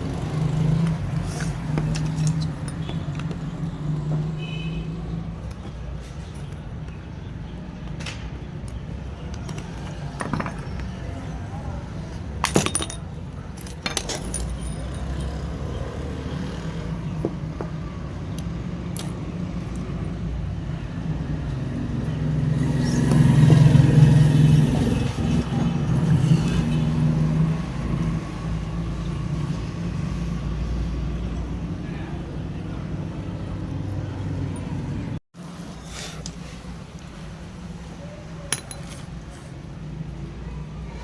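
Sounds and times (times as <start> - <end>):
low traffic rumble: 0.0 - 41.0.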